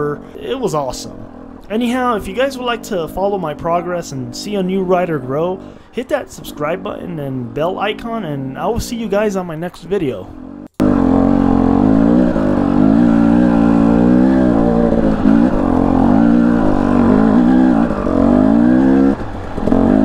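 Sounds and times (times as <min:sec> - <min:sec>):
dirt bike engine revving: 0:00.0 - 0:08.8, 0:10.1 - 0:20.0.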